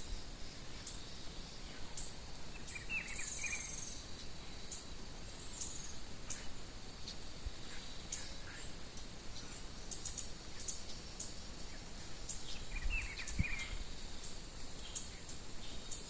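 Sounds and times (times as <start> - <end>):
high insect drone: 0.0 - 16.0
bird warbling song: 0.8 - 16.0.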